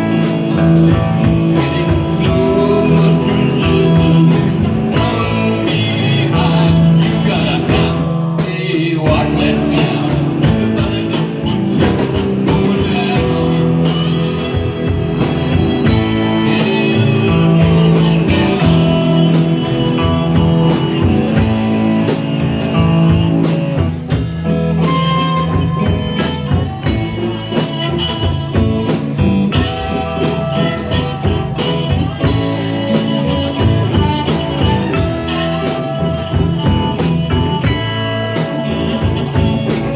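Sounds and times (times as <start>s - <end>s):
drum kit steady beat: 0.0s - 39.9s
electric guitar: 0.0s - 39.9s.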